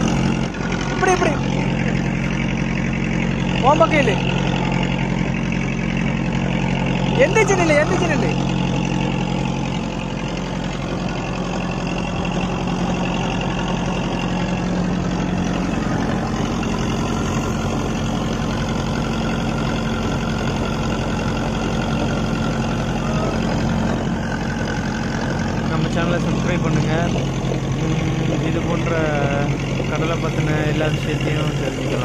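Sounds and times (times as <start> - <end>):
boat engine running: 0.0 - 32.0
water rushing along hull: 0.0 - 32.0.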